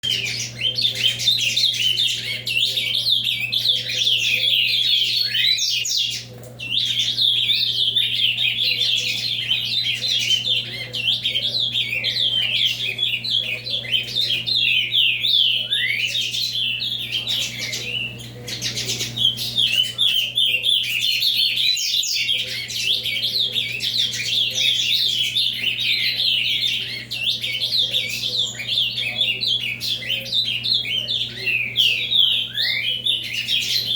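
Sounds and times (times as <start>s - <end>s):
bird singing warbled phrases: 0.0s - 33.9s.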